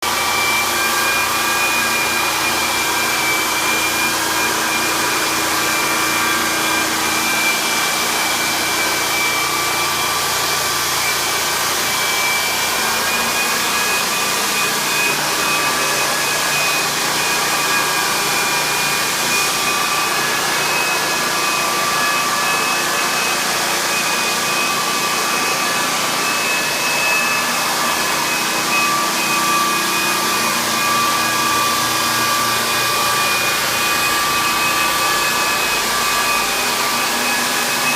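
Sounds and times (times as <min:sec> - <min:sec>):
floor sander running: 0:00.0 - 0:37.9.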